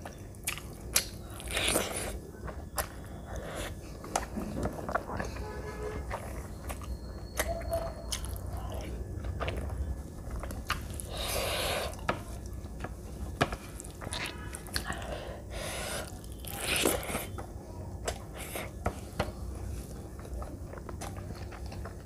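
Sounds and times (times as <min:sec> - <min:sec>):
chewing and mouth noises: 0:00.0 - 0:17.4, 0:20.1 - 0:22.0.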